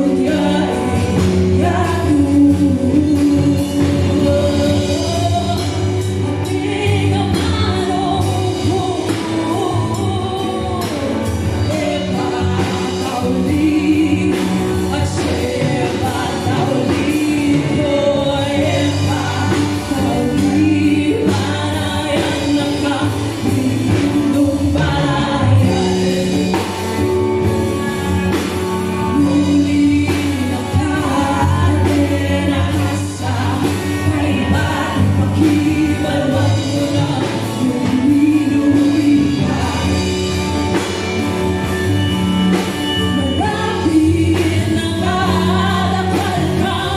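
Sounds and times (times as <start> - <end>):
acoustic guitar: 0.0 - 46.9
drum kit: 0.0 - 46.9
electric bass: 0.0 - 46.9
electric guitar: 0.0 - 46.9
keyboard: 0.0 - 46.9
woman singing: 0.0 - 46.9.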